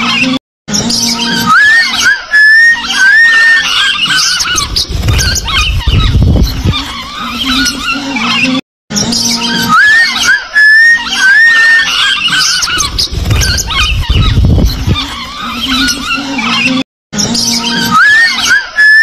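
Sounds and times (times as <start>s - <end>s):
lovebirds chattering: 0.9s - 8.6s, 9.2s - 18.5s.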